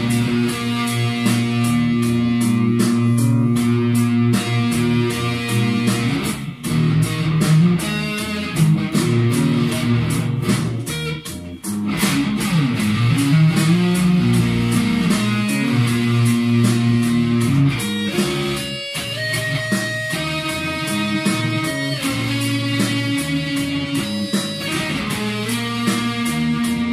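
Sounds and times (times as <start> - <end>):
electric guitar blues-rock lead: 0.0 - 26.9
ticking backing beat: 0.0 - 26.9.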